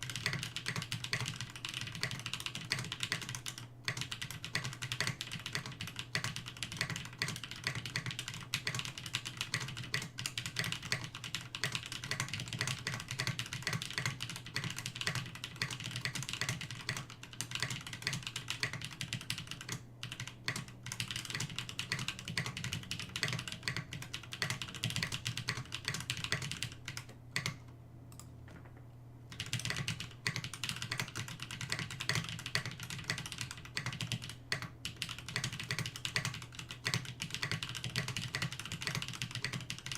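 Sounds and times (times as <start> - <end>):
fast typing on mechanical keyboard: 0.0 - 28.3, 29.3 - 39.9.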